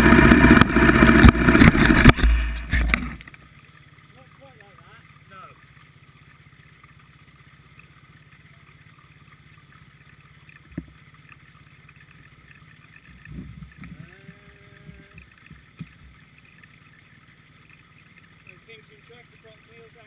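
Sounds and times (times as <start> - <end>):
motorcycle engine idling: 0.0 - 20.0
rumbling with short pitched tone: 0.0 - 20.0.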